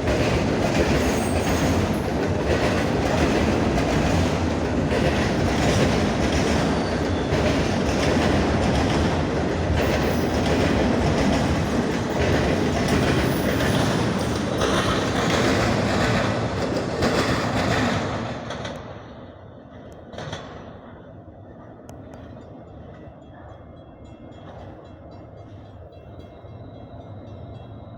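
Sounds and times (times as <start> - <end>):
quiet train rumble: 0.0 - 27.9.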